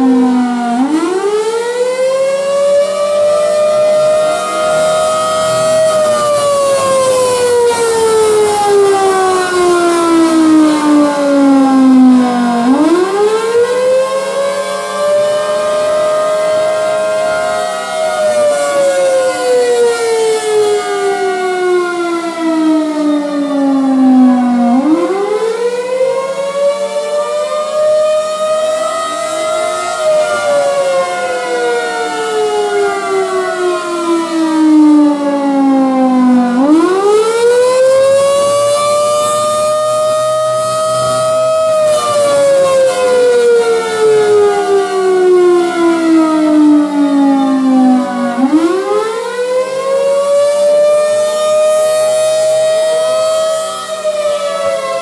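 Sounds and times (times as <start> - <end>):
warning sirens wailing: 0.0 - 55.0.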